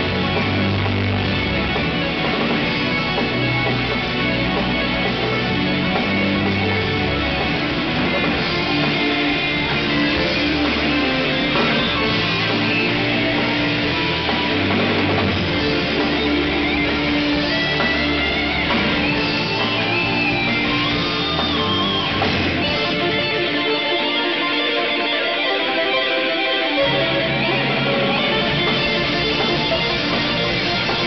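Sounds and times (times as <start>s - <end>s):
drum kit: 0.0s - 25.3s, 26.8s - 31.0s
bass guitar: 0.0s - 31.0s
electric guitar: 0.0s - 31.0s
lead guitar line sliding: 0.0s - 31.0s.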